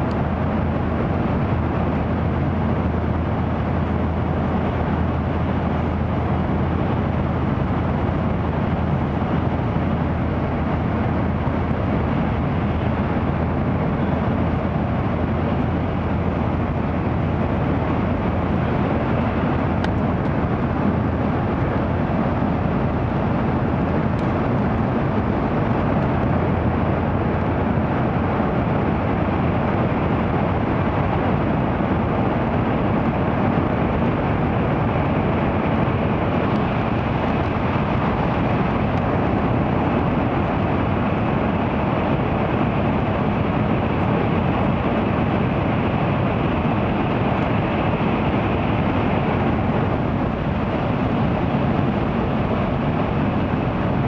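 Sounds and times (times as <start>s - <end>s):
train rumbling at speed: 0.0s - 54.0s.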